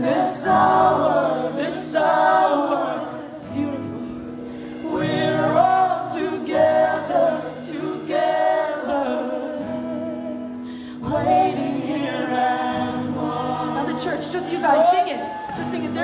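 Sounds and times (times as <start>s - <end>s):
voices singing together: 0.0s - 16.0s.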